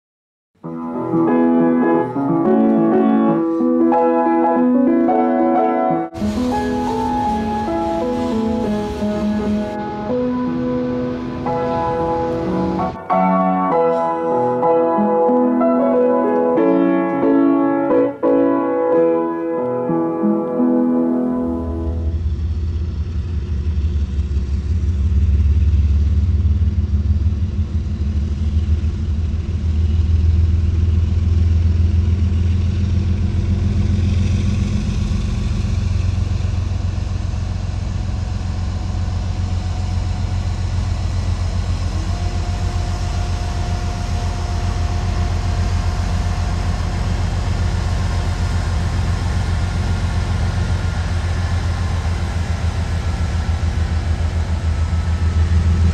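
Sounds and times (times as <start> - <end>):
freight train rolling past: 0.6 - 55.9
diesel locomotive engine rumble: 6.0 - 55.9.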